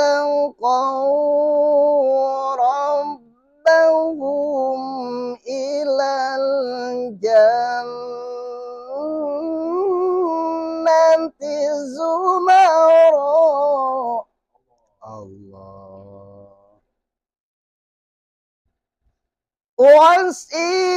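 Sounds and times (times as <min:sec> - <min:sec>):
man chanting a recitation: 0:00.0 - 0:14.2, 0:15.0 - 0:16.8, 0:19.8 - 0:20.9.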